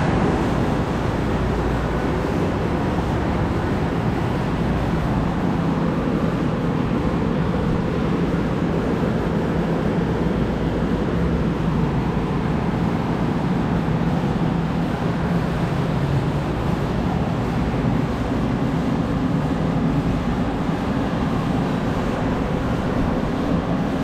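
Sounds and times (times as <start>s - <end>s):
constant rushing noise: 0.0s - 24.0s
mechanical hum with low drone: 0.0s - 24.0s.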